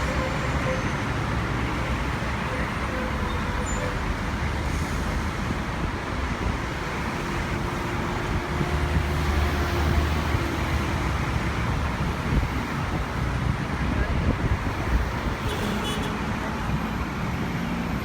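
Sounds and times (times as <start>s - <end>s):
engine and traffic rumble: 0.0s - 18.0s.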